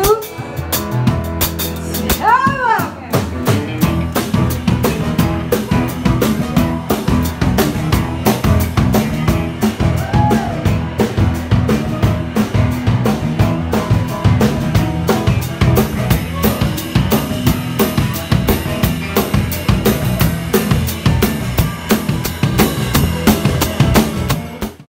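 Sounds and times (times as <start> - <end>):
drum kit beat: 0.0 - 24.9
electric bass line: 0.0 - 24.9.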